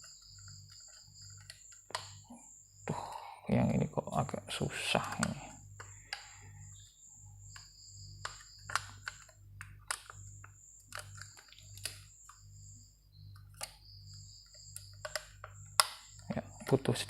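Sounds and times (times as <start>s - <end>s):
small laptop parts clicking and tapping: 0.0s - 3.2s, 4.8s - 17.0s.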